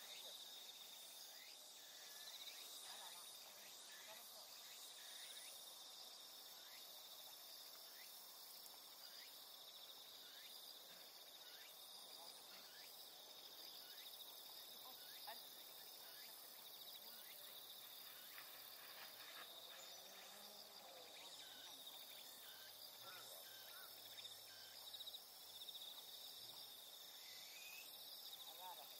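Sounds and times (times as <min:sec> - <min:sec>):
insects trilling: 0:00.0 - 0:28.9.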